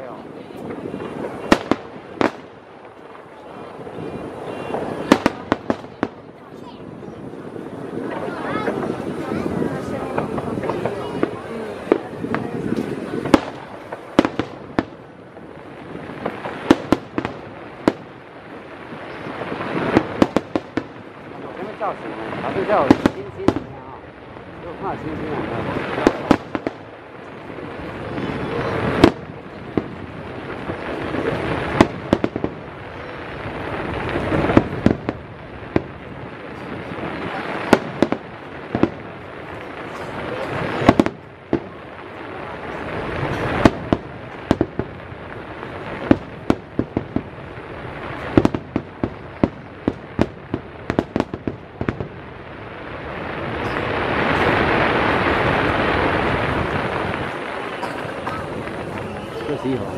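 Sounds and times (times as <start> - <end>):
fireworks bursting with bangs: 0.0 - 59.9
rushing background noise: 0.0 - 59.9.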